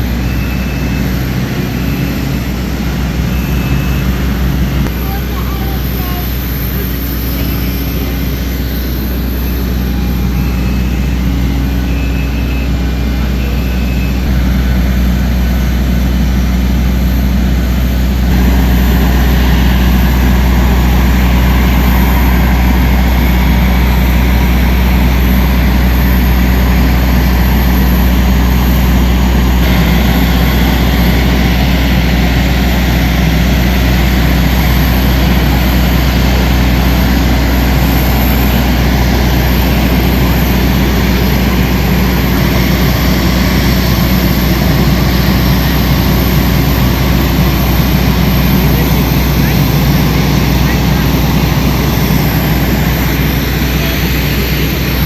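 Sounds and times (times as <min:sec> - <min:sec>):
air conditioning hum in aircraft cabin: 0:00.0 - 0:55.0.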